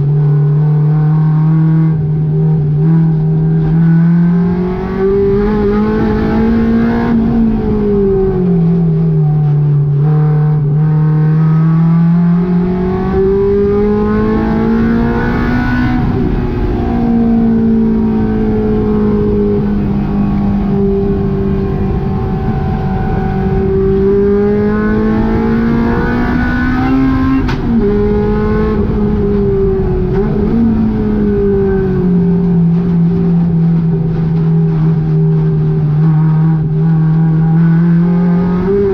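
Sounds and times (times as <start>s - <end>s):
car engine revving on track: 0.0s - 38.9s.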